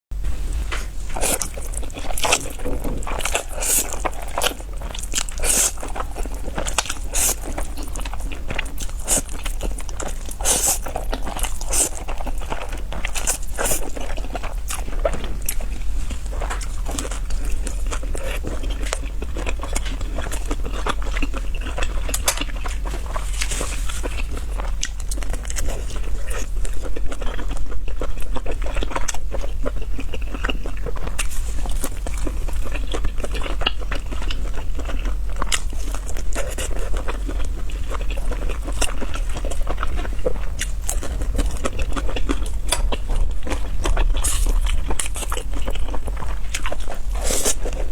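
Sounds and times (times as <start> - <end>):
small crunches: 0.5 - 47.9
person chewing and biting: 0.8 - 47.9.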